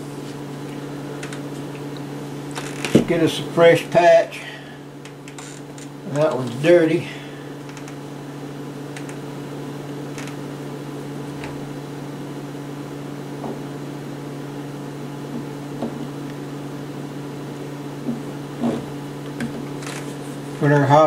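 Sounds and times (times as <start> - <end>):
low fan hum: 0.0 - 21.0.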